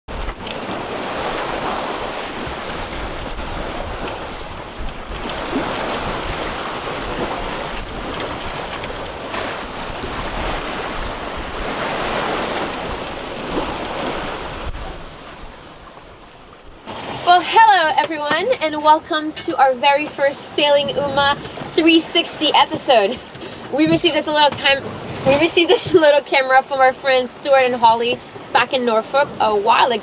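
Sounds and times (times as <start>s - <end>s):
ocean waves: 0.1s - 30.0s
water rushing around a boat: 0.1s - 30.0s
wind buffeting microphone: 0.1s - 30.0s.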